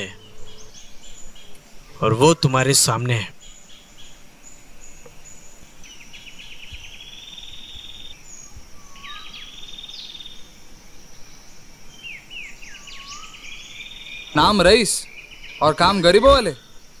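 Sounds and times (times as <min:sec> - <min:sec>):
birds buzzy trills: 0:00.0 - 0:17.0
birds high chirps and whistles: 0:00.0 - 0:17.0.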